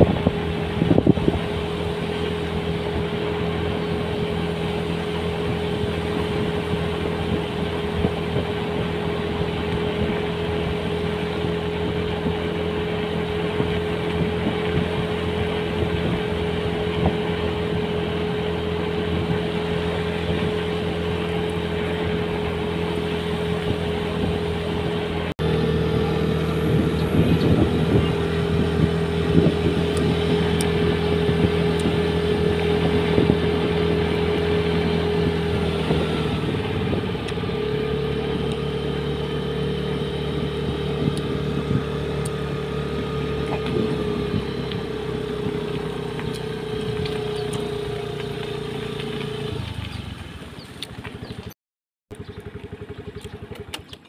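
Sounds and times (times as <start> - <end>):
motorbike engine cruising: 0.0 - 51.5, 52.1 - 54.0.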